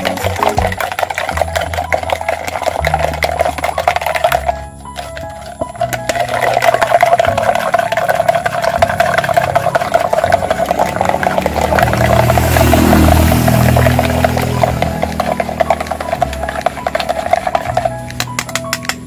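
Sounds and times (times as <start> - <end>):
plastic spoon stirring in cup: 0.0 - 19.0.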